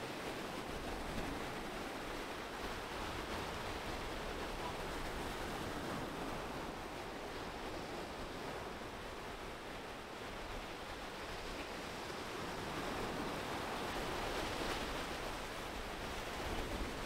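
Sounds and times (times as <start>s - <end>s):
surf breaking and washing: 0.0s - 17.0s.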